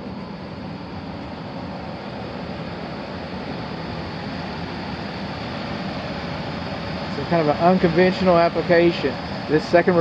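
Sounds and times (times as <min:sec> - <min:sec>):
furnace blower humming: 0:00.0 - 0:10.0.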